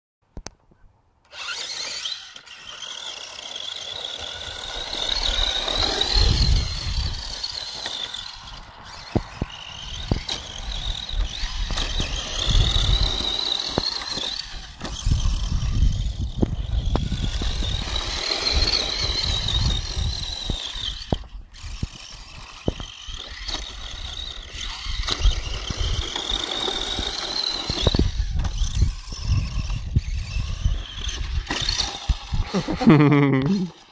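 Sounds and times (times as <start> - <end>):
electric motor whining: 1.3 - 33.9.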